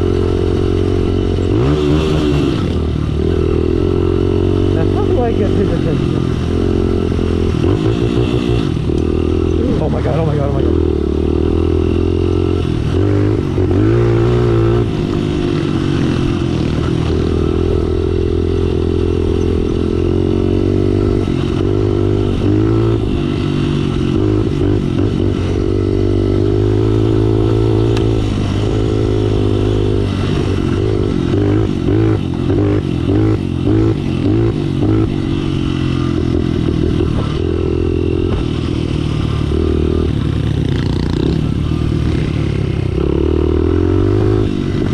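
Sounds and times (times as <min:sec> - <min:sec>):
small motorbike engine revving: 0:00.0 - 0:44.9.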